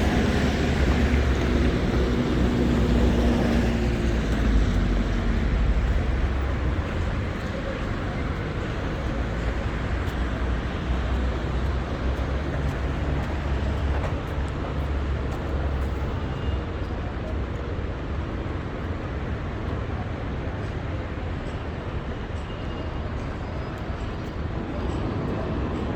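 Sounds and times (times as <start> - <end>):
vehicle engines rumbling: 0.0 - 25.9.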